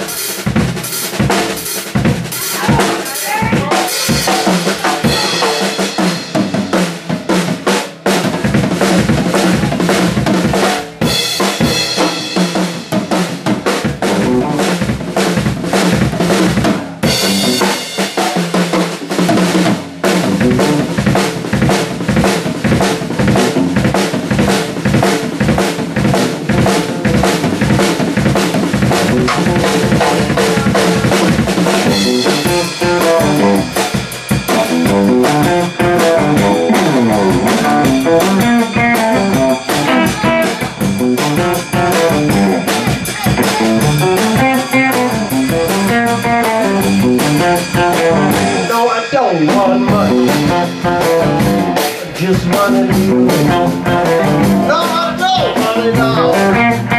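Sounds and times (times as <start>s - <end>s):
drum solo: 0.0s - 56.9s
electric guitar: 0.0s - 56.9s
electric bass line: 3.5s - 56.9s.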